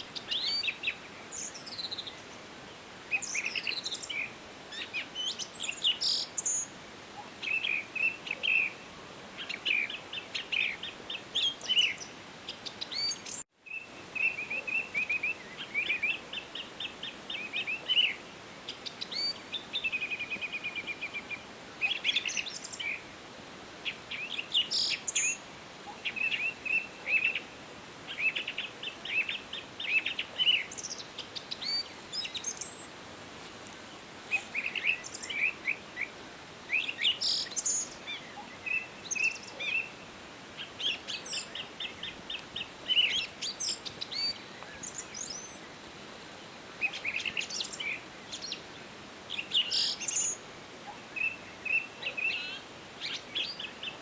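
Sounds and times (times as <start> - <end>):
songbirds singing and calling: 0.0 - 23.2, 23.8 - 54.0
faint ambient hiss: 0.0 - 54.0.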